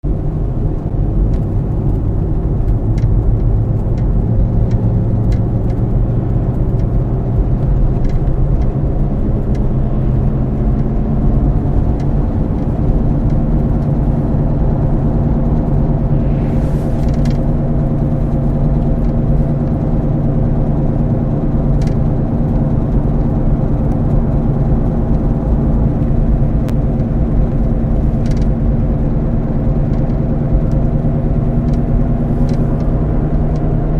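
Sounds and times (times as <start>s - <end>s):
road rumble: 0.0s - 33.9s
wheel bearing droning hum: 0.9s - 33.9s.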